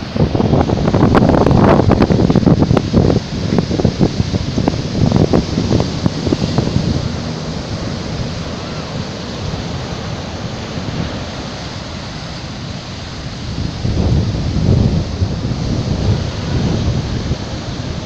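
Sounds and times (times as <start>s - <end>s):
surf breaking on shore: 0.0s - 18.0s
wind buffeting microphone: 0.0s - 18.0s.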